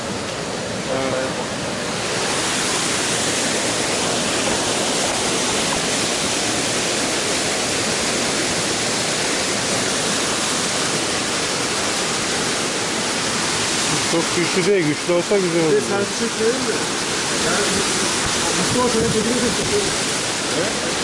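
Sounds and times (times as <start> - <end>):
waterfall pouring into pool: 1.9 - 21.0.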